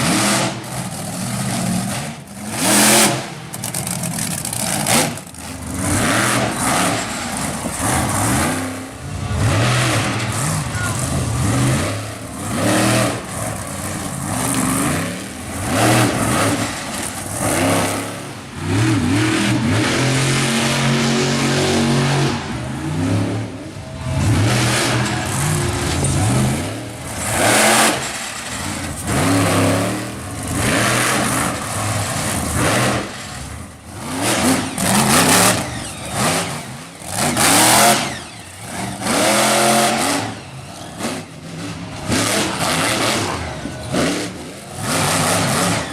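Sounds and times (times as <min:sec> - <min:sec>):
monster truck engines revving: 0:00.0 - 0:45.9.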